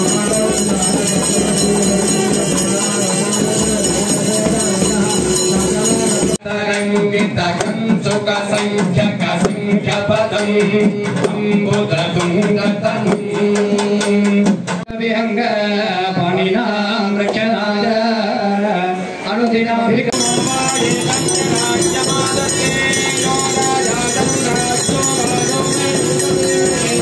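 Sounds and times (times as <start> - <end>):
drums beating steady rhythm: 0.0 - 15.0, 20.1 - 27.0.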